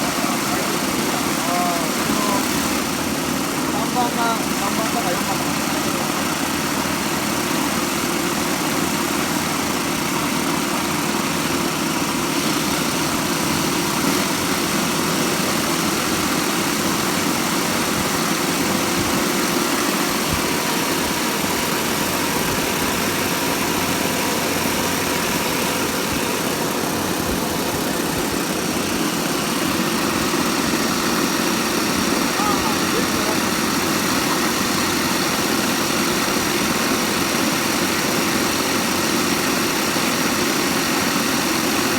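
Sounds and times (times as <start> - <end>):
model aircraft engines running: 0.0 - 41.9.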